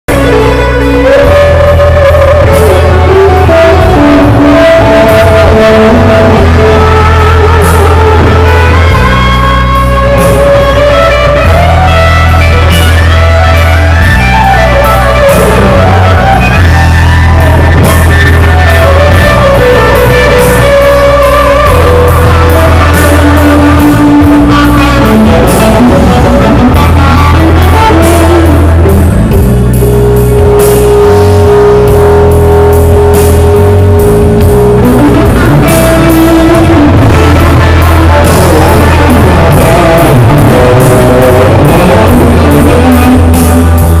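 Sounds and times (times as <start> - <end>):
bass guitar: 0.0 - 44.0
electric guitar lead melody: 0.0 - 44.0
drum kit: 0.1 - 44.0.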